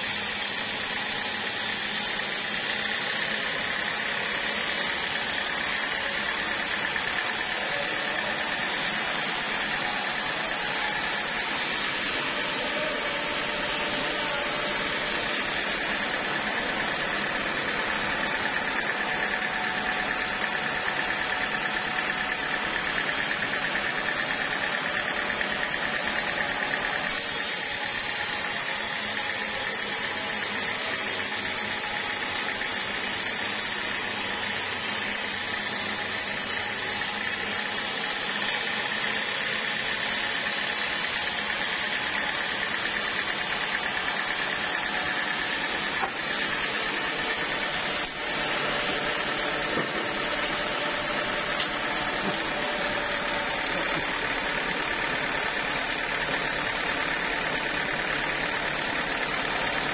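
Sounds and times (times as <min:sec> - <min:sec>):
sawmill machinery whining: 0:00.0 - 0:59.9.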